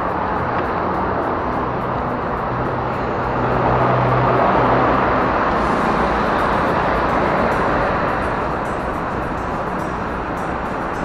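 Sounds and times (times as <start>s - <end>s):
bicycle road noise: 0.0s - 11.0s
vehicle engine hum: 0.0s - 11.0s
wind rush: 0.0s - 11.0s.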